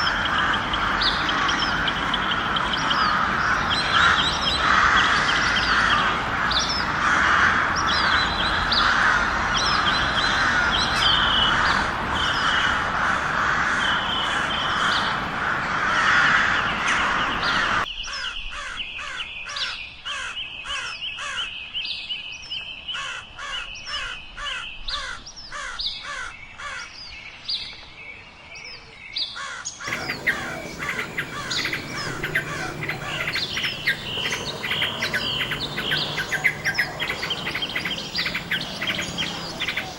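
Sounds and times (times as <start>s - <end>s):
birds chirping and calling: 0.0s - 27.7s, 29.2s - 39.9s.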